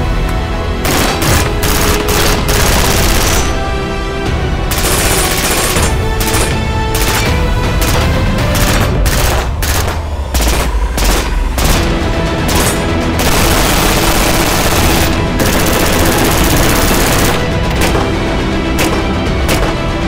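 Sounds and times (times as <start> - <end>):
music playing: 0.0 - 20.0
rapid rifle fire: 0.8 - 3.7, 4.7 - 18.2, 18.8 - 19.9.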